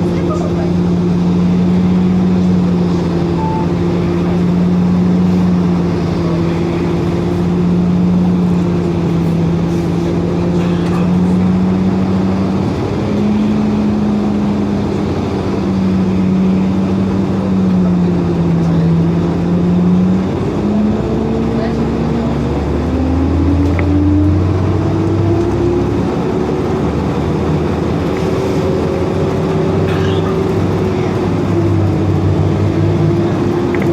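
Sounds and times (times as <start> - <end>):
bus drivetrain drone: 0.0 - 33.9
road rumble: 0.0 - 33.9.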